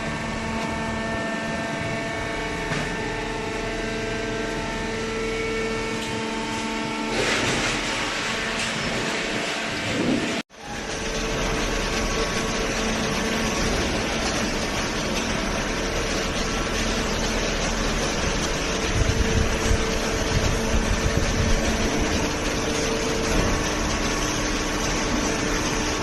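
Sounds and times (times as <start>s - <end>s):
hydraulic baler motor humming: 0.0s - 26.0s.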